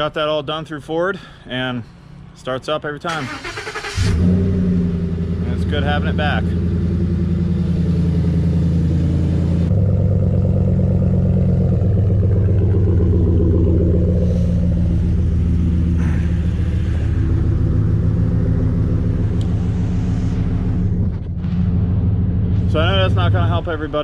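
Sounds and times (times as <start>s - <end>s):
truck engine idling: 3.2s - 24.0s.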